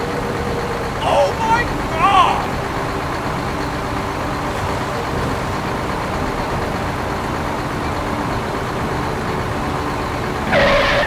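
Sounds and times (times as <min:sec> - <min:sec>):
model trucks engine drone: 0:00.0 - 0:11.0.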